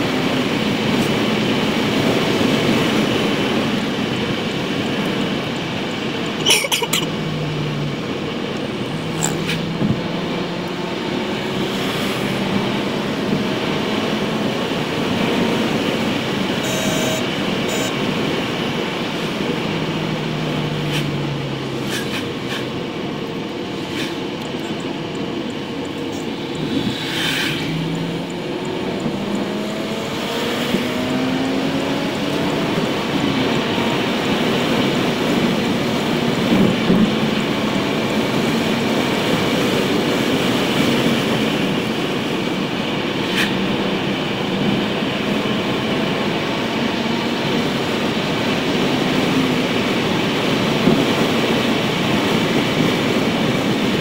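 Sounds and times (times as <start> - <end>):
car engine hum: 0.0 - 54.0.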